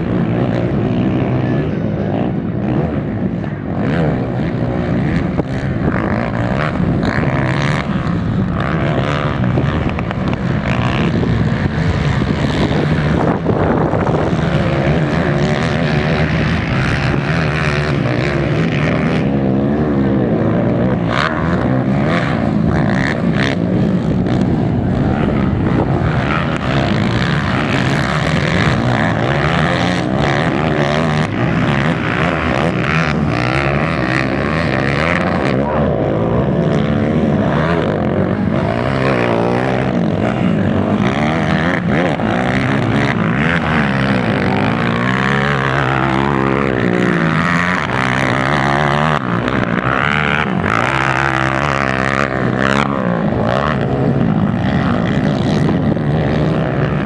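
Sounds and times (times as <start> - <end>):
quad engines revving: 0.0 - 57.0.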